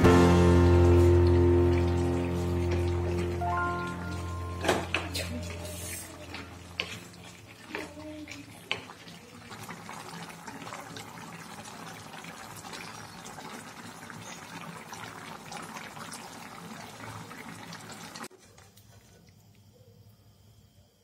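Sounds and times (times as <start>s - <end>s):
stew boiling in a wok: 0.0s - 19.2s.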